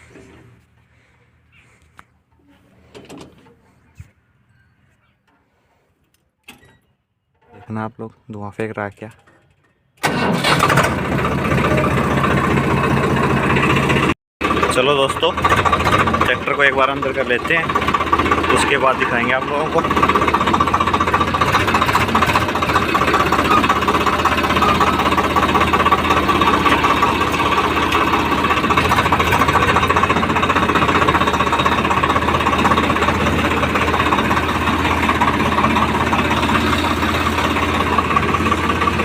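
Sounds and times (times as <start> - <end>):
tractor diesel engine running: 0.0 - 4.1, 9.0 - 39.0.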